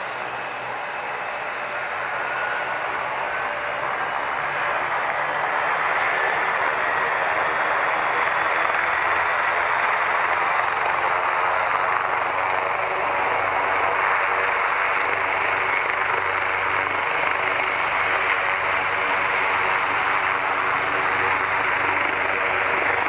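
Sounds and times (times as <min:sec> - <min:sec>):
aircraft engine noise: 0:00.0 - 0:23.0.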